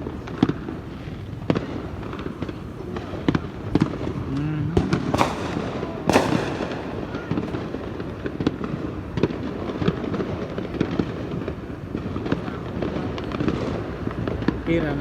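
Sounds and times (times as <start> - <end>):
background din of explosions: 0.0 - 15.0
firecrackers popping: 0.0 - 15.0.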